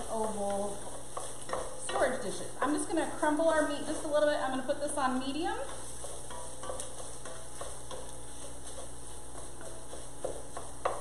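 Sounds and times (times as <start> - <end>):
sausage sizzling in a pot: 0.0 - 11.0.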